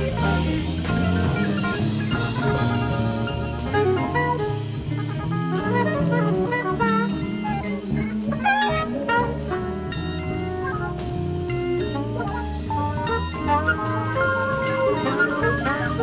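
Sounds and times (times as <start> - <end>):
bass: 0.0 - 16.0
drums: 0.0 - 16.0
jazz horns playing melody: 0.0 - 16.0.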